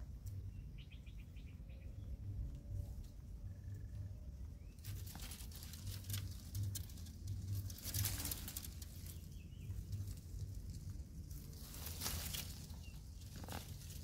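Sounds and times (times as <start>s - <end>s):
steady low rumble: 0.0s - 14.0s
leaves and branches rustling: 2.7s - 14.0s.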